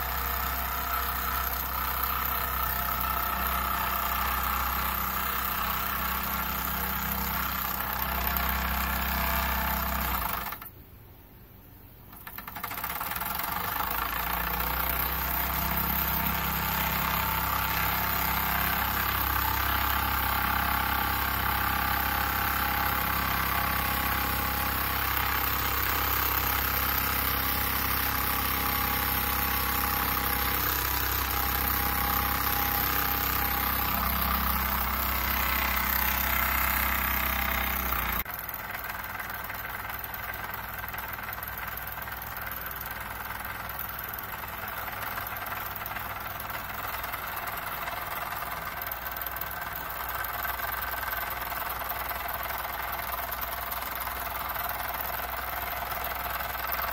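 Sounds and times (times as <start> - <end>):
toy steam engine running: 0.0 - 10.7, 12.1 - 56.9.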